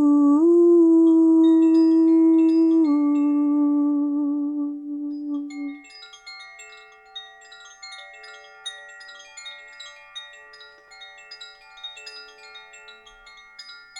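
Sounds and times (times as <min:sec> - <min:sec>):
wind chimes ringing: 0:01.4 - 0:04.2, 0:04.8 - 0:13.9.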